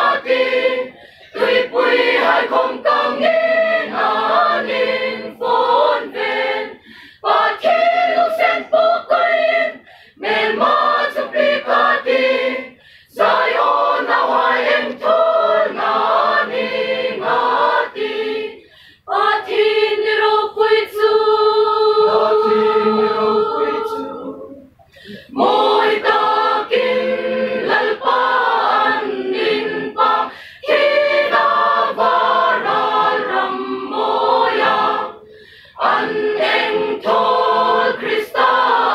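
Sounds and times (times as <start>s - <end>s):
mixed choir singing: 0.0s - 38.9s.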